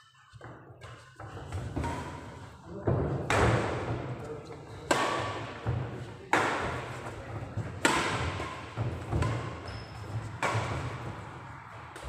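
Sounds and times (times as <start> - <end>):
racket hitting shuttlecock: 0.9 - 2.4, 3.0 - 4.1, 4.8 - 12.0.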